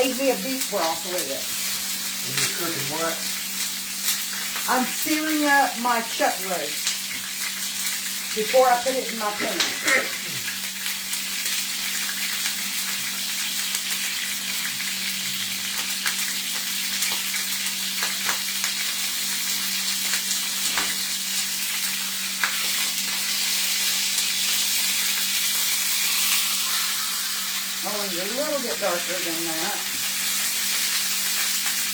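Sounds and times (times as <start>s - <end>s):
meat sizzling in a hot pan: 0.0s - 31.9s.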